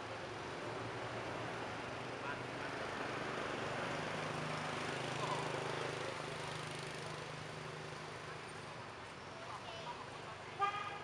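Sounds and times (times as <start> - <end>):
outdoor traffic noise: 0.0 - 11.0.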